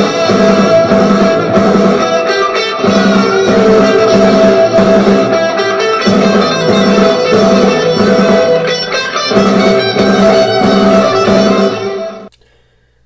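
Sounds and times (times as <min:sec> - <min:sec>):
steady bass line: 0:00.0 - 0:12.2
electric guitar music: 0:00.0 - 0:12.3.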